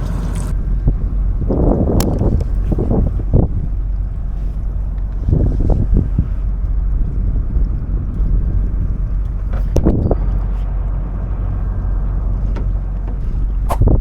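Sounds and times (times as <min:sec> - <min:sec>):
boat machinery rumble: 0:00.0 - 0:14.0
wind buffeting microphone: 0:00.0 - 0:14.0.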